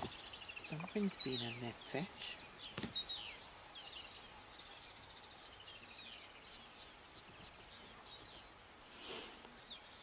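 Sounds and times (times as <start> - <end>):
birds chirping: 0.0 - 10.0
soft hiss: 1.3 - 10.0.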